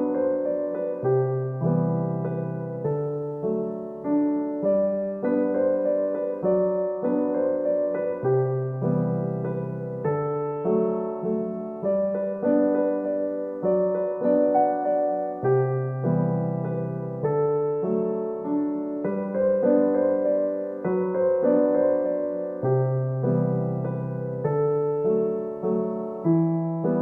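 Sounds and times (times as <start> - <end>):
gentle piano piece: 0.0 - 27.0.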